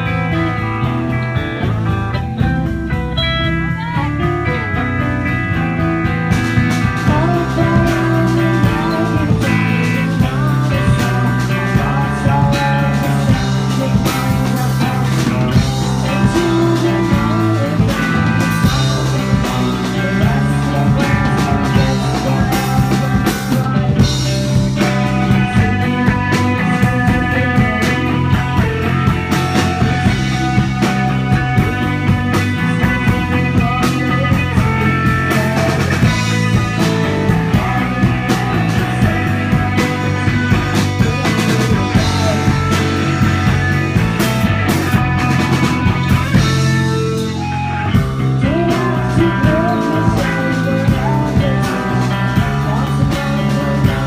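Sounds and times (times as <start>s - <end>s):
bass guitar: 0.0s - 54.0s
drums: 0.0s - 54.0s
electric guitars: 0.0s - 54.0s.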